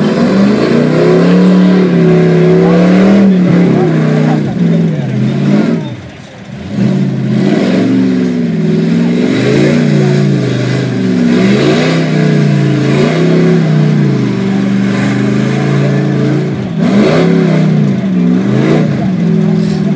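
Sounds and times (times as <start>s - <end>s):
tires churning through mud: 0.0s - 19.9s
truck engine revving: 0.0s - 19.9s.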